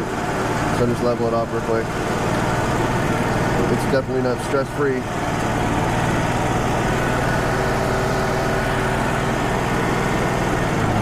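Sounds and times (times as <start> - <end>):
band sawmill diesel engine running: 0.0 - 11.0.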